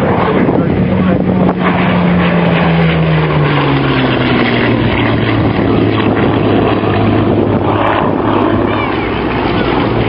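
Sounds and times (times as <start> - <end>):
aircraft engine flypast: 0.0 - 10.0.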